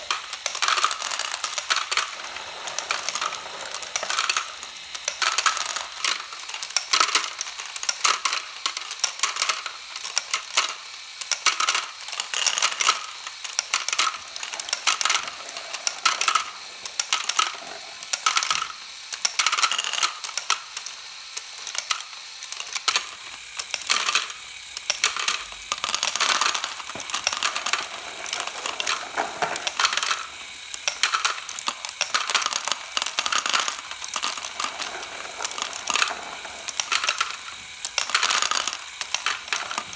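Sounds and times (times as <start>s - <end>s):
plastic parts and balls clattering: 0.0s - 20.8s, 21.6s - 39.9s.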